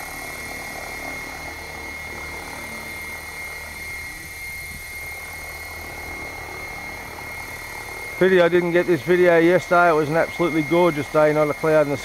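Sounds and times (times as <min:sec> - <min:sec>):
helicopter rotor hum: 0:00.0 - 0:12.0
high motor whine: 0:00.0 - 0:12.0.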